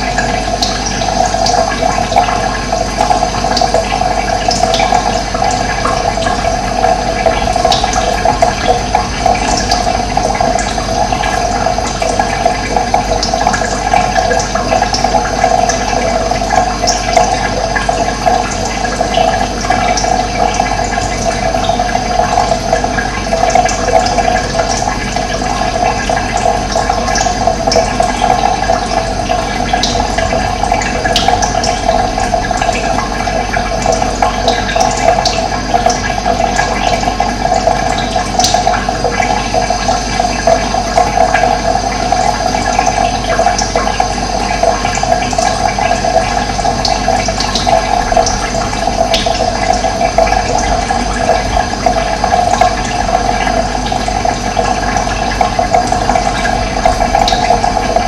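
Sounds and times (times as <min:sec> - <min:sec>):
water rushing: 0:05.1 - 0:41.2, 0:41.8 - 0:58.0.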